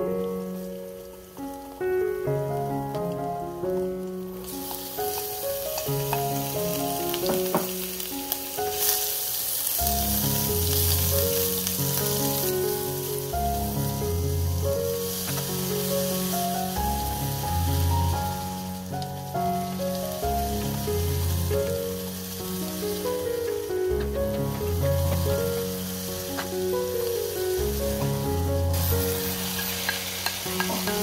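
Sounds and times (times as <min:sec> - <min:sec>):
background music: 0:00.0 - 0:31.0
food sizzling in hot oil: 0:00.1 - 0:31.0.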